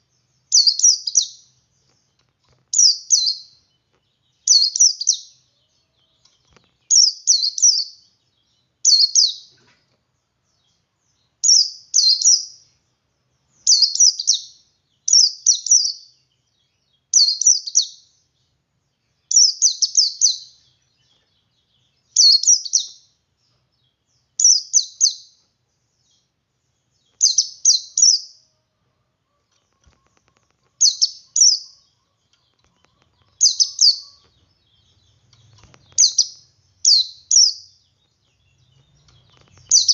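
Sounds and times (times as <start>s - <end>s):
bird rapid high chirping: 0.0s - 9.7s, 10.5s - 12.8s, 13.4s - 18.3s, 19.0s - 25.4s, 26.0s - 28.5s, 29.6s - 39.9s.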